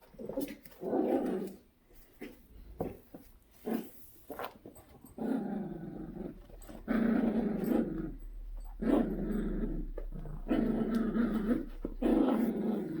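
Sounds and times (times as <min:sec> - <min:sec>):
dogs fighting and growling: 0:00.0 - 0:02.4, 0:03.6 - 0:13.0.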